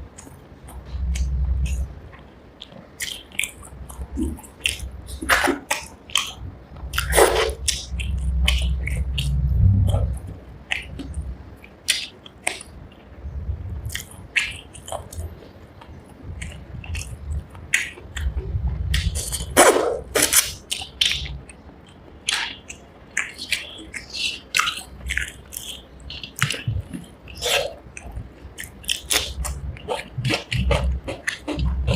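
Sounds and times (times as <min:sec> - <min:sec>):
wet chewing and lip smacks: 0:00.2 - 0:09.3, 0:13.9 - 0:19.6, 0:20.2 - 0:31.9.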